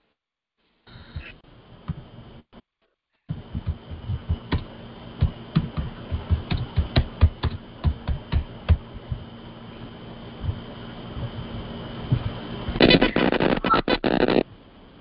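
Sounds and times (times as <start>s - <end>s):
faint steady microphone hum: 0.9s - 15.0s.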